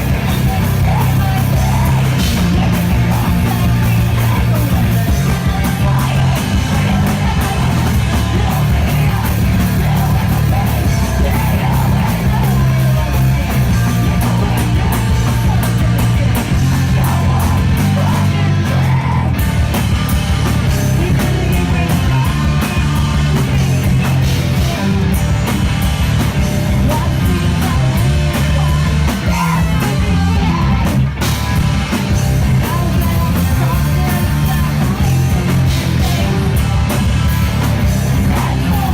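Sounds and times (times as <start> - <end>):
bass: 0.0 - 38.9
distorted electric guitars: 0.0 - 38.9
drums: 0.0 - 38.9.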